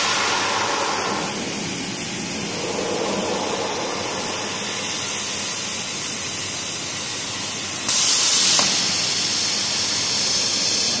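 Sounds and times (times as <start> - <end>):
plasma torch hissing: 0.0 - 7.3, 7.9 - 9.8.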